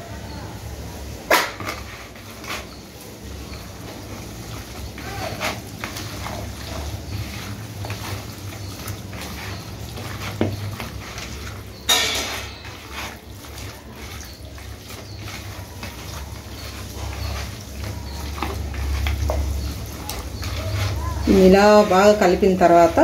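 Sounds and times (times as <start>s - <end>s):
hands squelching raw chicken: 1.4s - 23.0s.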